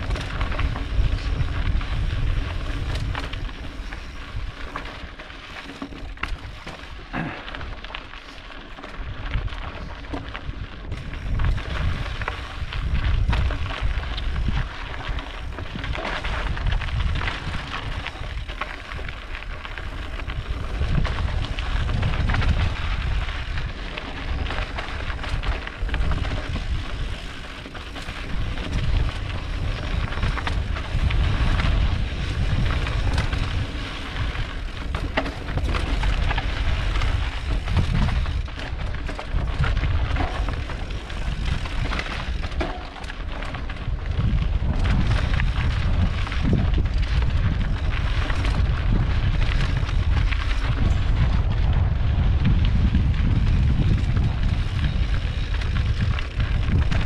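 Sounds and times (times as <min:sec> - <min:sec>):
wind on microphone: 0:00.0 - 0:05.1, 0:09.0 - 0:57.0
bike rattling: 0:00.0 - 0:57.0
tyres crunching on rocky trail: 0:00.0 - 0:57.0.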